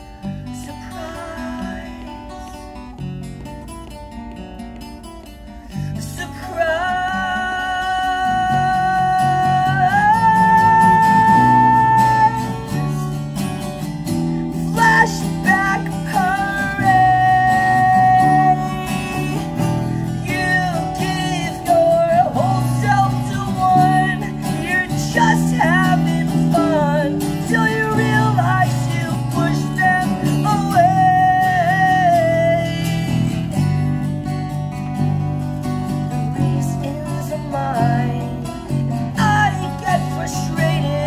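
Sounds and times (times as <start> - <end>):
man singing: 0.0 - 2.7, 6.0 - 13.4, 14.5 - 34.0, 36.2 - 41.0
acoustic guitar chords: 0.0 - 41.0.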